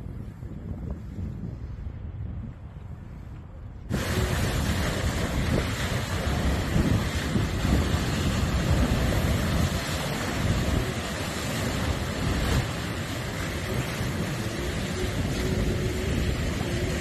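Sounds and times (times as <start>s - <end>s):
wind buffeting microphone: 0.0s - 17.0s
waves splashing against pilings: 2.6s - 17.0s.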